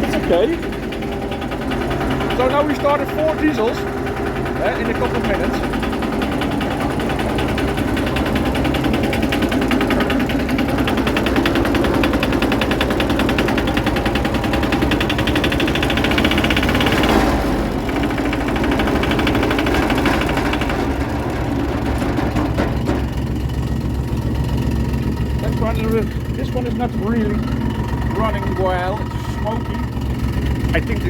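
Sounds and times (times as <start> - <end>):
diesel engine knocking: 0.0 - 31.0.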